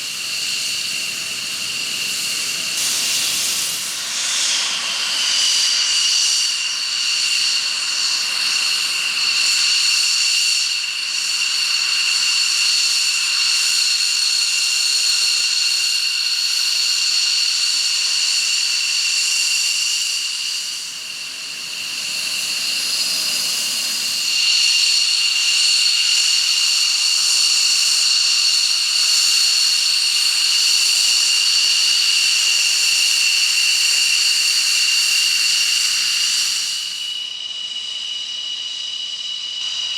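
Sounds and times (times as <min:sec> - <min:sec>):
jet engine turbine whine: 0:00.0 - 0:39.9.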